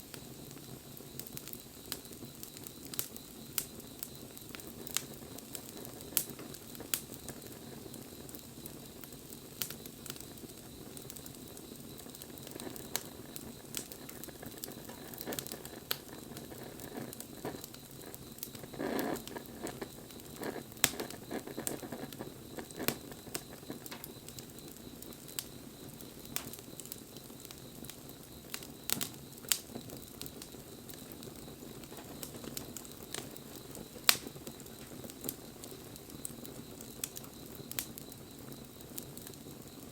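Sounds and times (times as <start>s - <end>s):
fire popping: 0.0s - 39.9s
low fire hiss: 0.0s - 39.9s
wood fire crackling: 0.0s - 39.9s.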